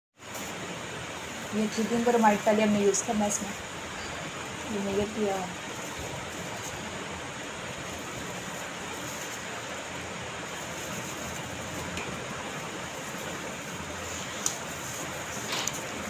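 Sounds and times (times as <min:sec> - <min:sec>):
blower airflow hiss: 0:00.2 - 0:16.0.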